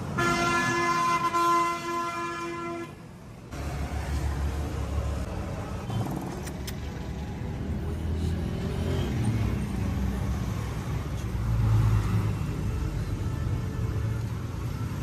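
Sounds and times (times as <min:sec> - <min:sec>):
rumble of street traffic: 0:00.0 - 0:15.0.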